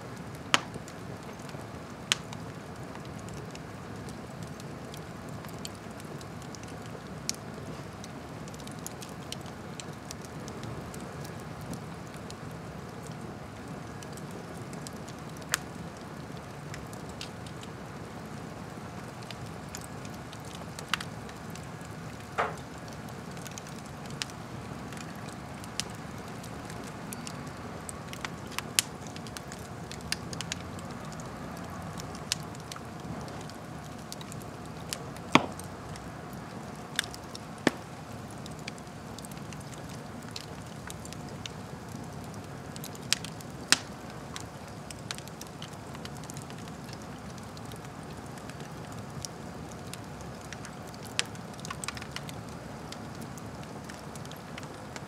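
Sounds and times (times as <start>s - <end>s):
fire crackling and popping: 0.0s - 55.0s
fire flames rustling: 0.0s - 55.0s.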